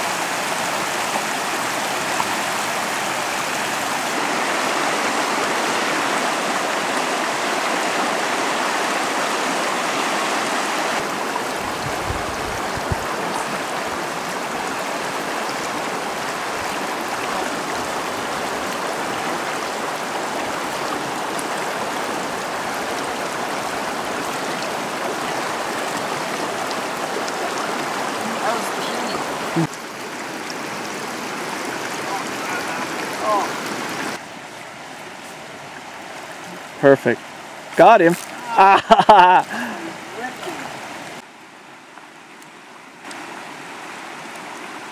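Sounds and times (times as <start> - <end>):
creek running over rocks: 0.0 - 44.9.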